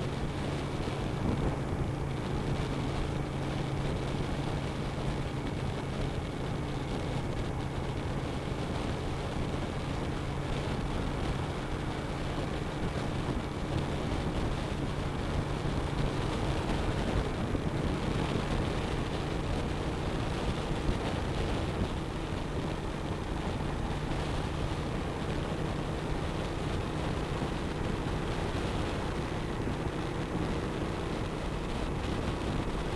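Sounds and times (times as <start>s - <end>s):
motorcycle engine cruising: 0.0s - 32.9s.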